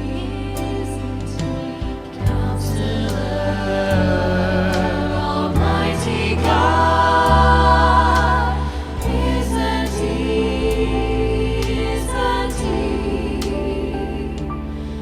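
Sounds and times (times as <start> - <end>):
choral singing: 0.0 - 15.0
low sustained bass: 0.0 - 15.0.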